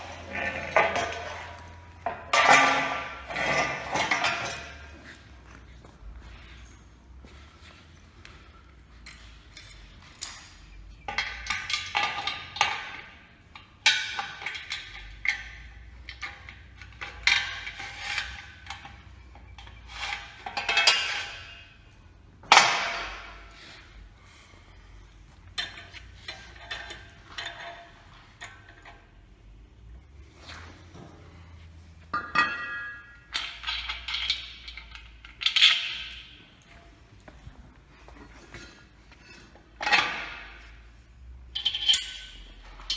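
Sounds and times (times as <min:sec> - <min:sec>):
metallic clinks and scrapes: 0:00.0 - 0:42.9.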